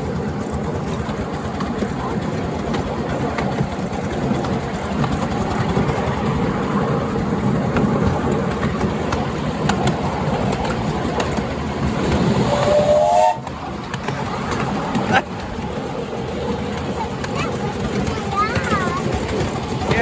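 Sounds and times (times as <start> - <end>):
miniature train rumbling: 0.0 - 20.0.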